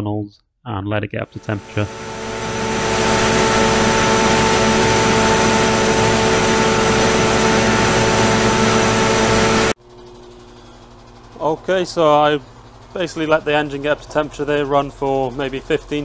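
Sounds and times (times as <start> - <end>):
diesel generator humming: 1.1 - 16.0.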